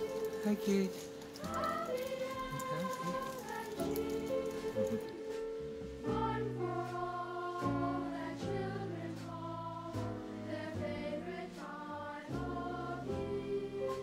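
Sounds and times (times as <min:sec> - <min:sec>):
choir singing slow chords: 0:00.0 - 0:14.0.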